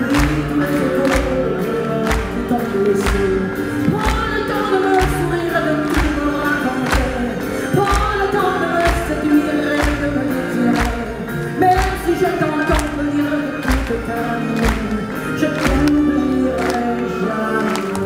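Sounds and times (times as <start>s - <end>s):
band playing with piano: 0.0s - 18.0s
woman singing into microphone: 0.0s - 18.0s.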